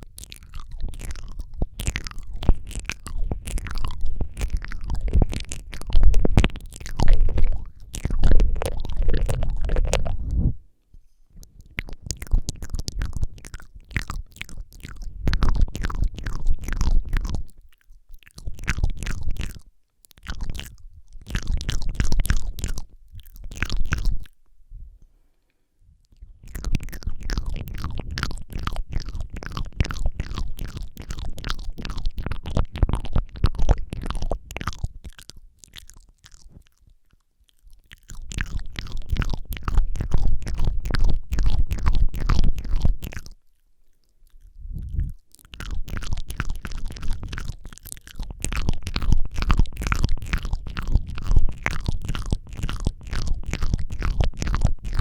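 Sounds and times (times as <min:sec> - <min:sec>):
wet tongue and lip clicks: 0:00.0 - 0:55.0.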